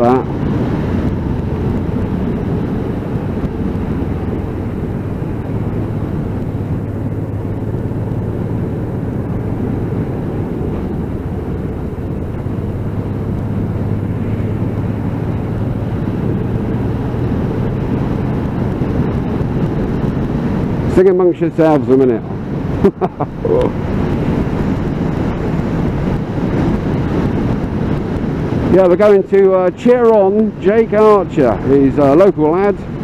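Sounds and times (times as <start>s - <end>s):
muffled motorcycle engine: 0.0s - 33.0s
wind rushing past: 0.0s - 33.0s.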